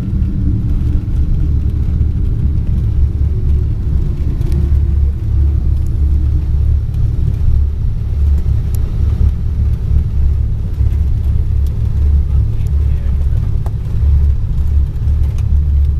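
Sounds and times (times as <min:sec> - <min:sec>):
propeller plane engines droning: 0:00.0 - 0:15.9.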